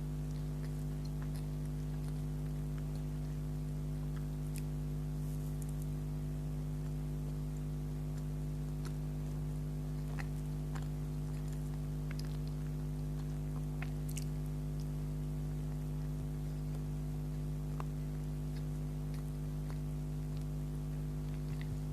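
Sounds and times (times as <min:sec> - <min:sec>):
chewing soft food: 0:00.0 - 0:21.9
low electrical hum: 0:00.0 - 0:21.9
wet mouth clicks: 0:00.2 - 0:05.0, 0:06.8 - 0:21.9.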